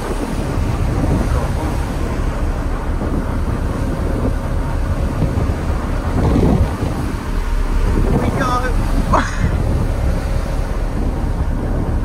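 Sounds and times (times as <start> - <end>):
ferry engine rumble: 0.0 - 12.0
water rushing along hull: 0.0 - 12.0.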